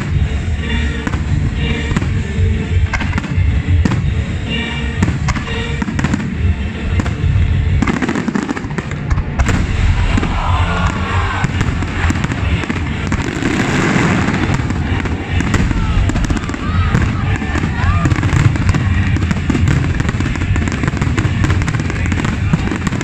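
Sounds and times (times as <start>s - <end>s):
fireworks booming and crackling: 0.0s - 23.0s.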